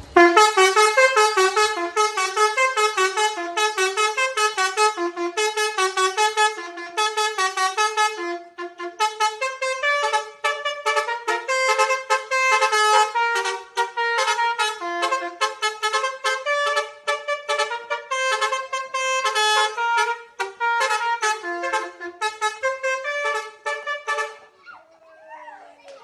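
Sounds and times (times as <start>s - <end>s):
horn playing fast melody: 0.0s - 24.6s.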